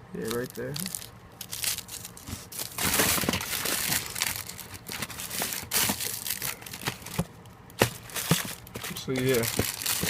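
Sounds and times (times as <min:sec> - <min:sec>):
plastic packaging crinkling: 0:00.2 - 0:10.0.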